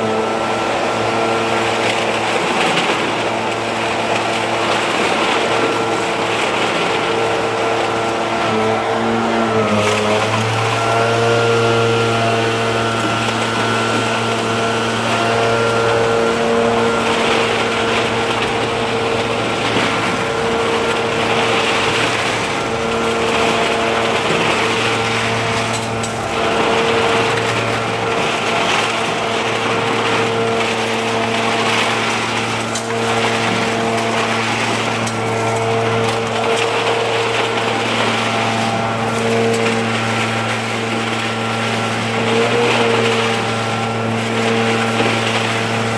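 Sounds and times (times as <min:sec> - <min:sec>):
leaf blower running: 0:00.0 - 0:45.9.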